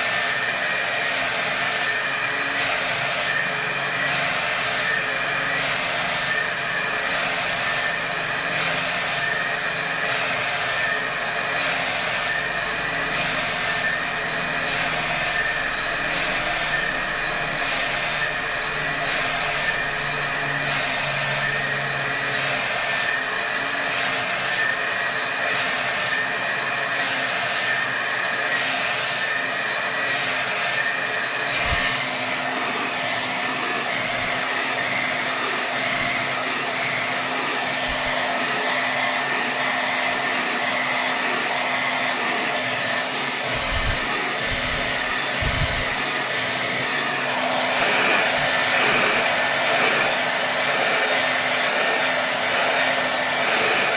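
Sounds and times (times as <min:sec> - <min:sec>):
hair dryer running: 0:00.0 - 0:53.9.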